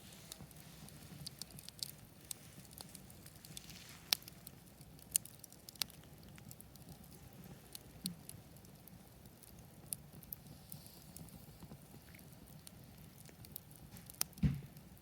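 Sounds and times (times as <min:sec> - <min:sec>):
campfire crackling and popping: 0:00.0 - 0:15.0
soft steady hiss: 0:00.0 - 0:15.0.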